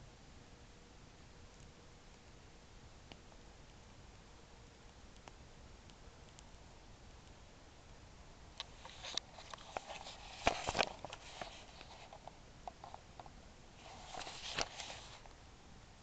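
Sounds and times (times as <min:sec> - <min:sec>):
faint fire hiss: 0:00.0 - 0:16.0.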